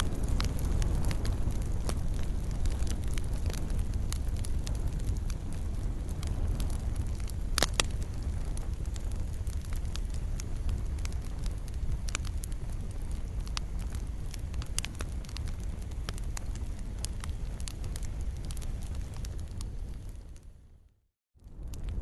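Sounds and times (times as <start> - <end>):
wood crackling and popping: 0.0 - 20.6, 21.4 - 22.0
fire flames burning: 0.0 - 22.0.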